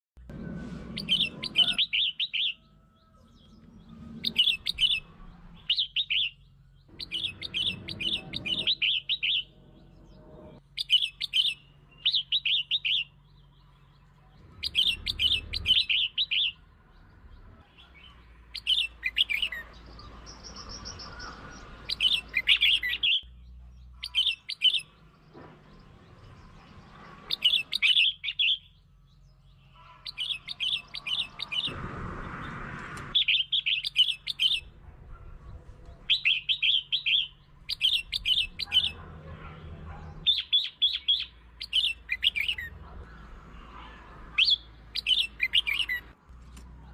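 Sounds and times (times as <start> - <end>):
bulbul singing warbled phrases: 1.0 - 25.3, 25.9 - 31.8, 33.1 - 46.2.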